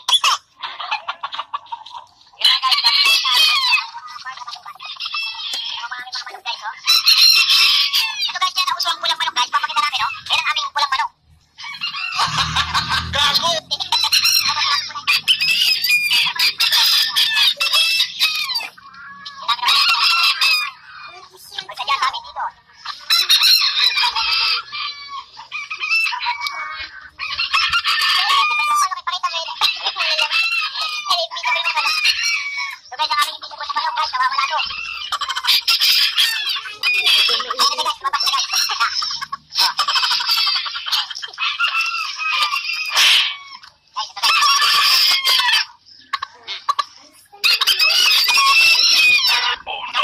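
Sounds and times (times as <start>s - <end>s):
chickens clucking: 0.0s - 50.0s
roosters crowing: 2.4s - 50.0s.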